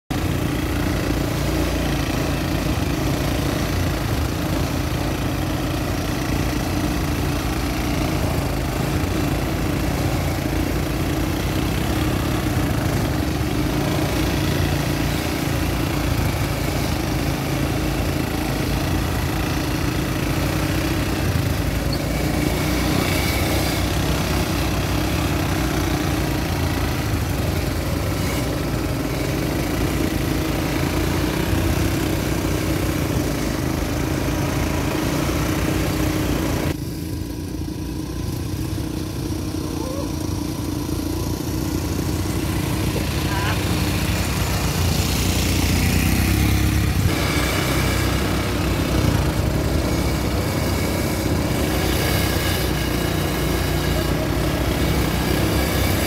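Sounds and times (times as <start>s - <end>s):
quad bike engines running: 0.1s - 56.0s.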